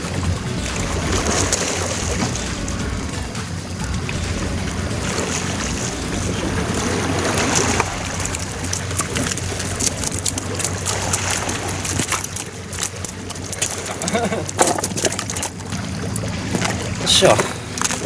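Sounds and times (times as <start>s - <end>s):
sea noise: 0.0s - 18.0s
wind noise on microphone: 0.0s - 18.0s.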